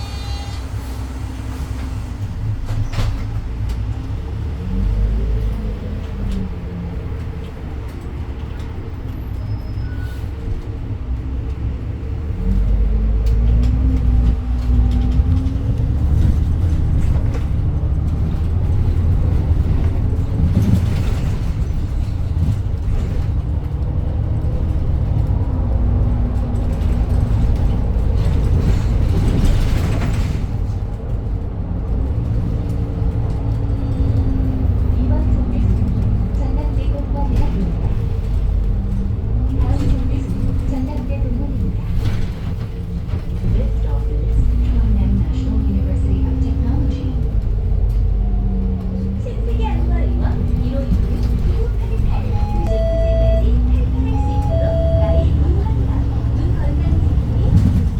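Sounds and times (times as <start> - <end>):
bus engine drone: 0.0 - 57.9
road noise: 0.0 - 57.9.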